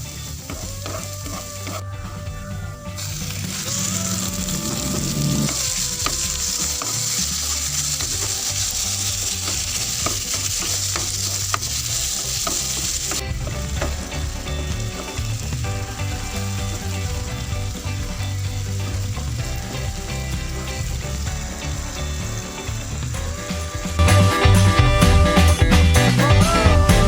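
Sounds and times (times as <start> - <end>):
food sizzling in a frying pan: 3.0 - 25.4.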